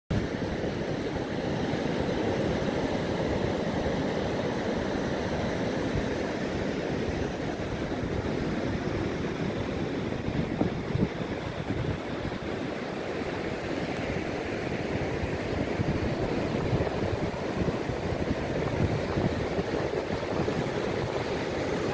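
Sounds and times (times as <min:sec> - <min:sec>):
waves breaking on beach: 0:00.1 - 0:21.9
wind buffeting microphone: 0:00.2 - 0:21.9.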